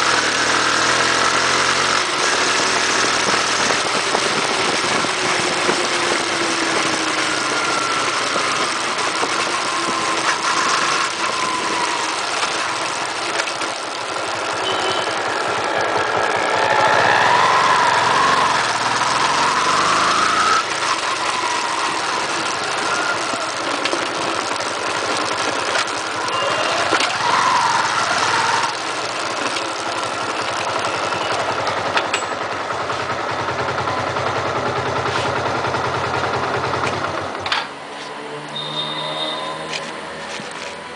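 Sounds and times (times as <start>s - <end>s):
wind and road noise: 0.0s - 38.6s
motorcycle engine running: 0.0s - 40.9s.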